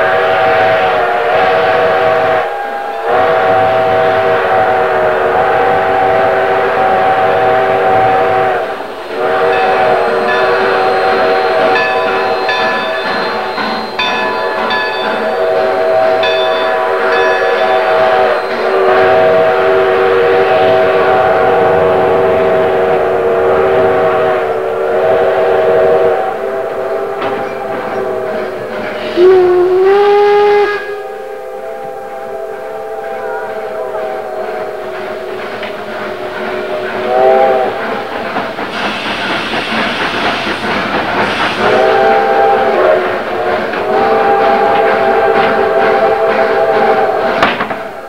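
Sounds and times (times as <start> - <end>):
steam locomotive whistle: 0.0 - 48.0
train rumbling on rails: 0.0 - 48.0.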